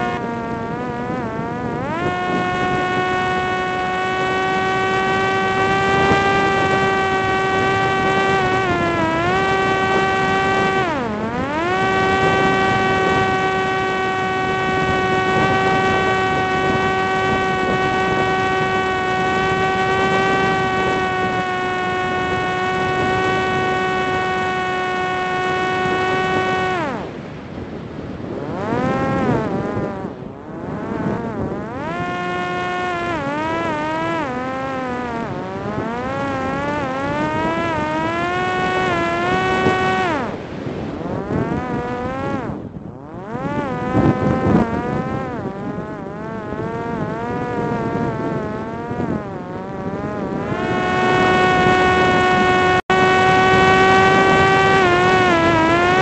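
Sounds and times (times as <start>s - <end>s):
drone motor and propeller whine: 0.0s - 56.0s.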